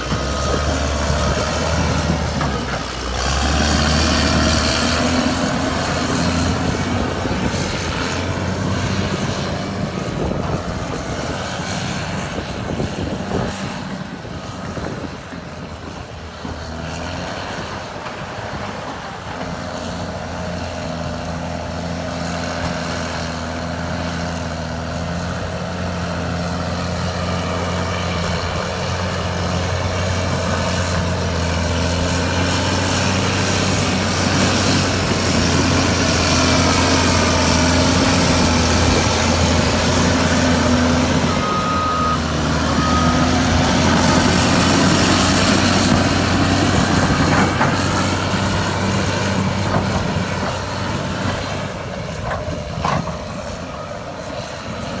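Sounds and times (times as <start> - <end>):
bulldozer clatter: 0.0 - 55.0
bulldozer diesel engine running: 0.0 - 55.0.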